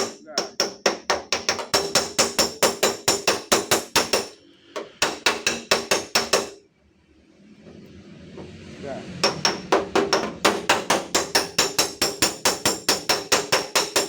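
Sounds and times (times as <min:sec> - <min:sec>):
hammer tapping on steel sheet: 0:00.0 - 0:06.6, 0:09.2 - 0:14.0.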